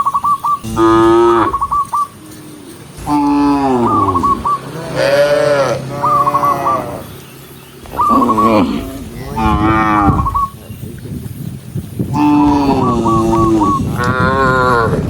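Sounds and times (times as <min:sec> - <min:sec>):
high chirping call: 0:00.0 - 0:14.2
cows mooing: 0:00.6 - 0:07.2, 0:07.8 - 0:10.6, 0:12.1 - 0:15.0.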